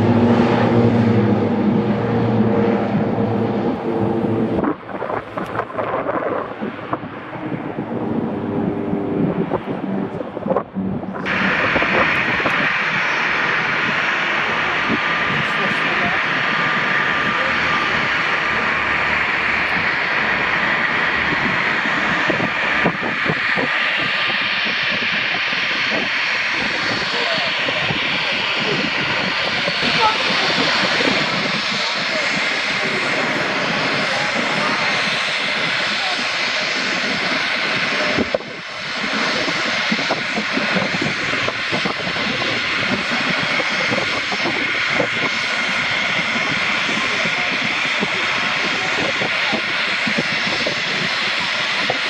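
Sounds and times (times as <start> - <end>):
airplane engine running: 0.0 - 52.0.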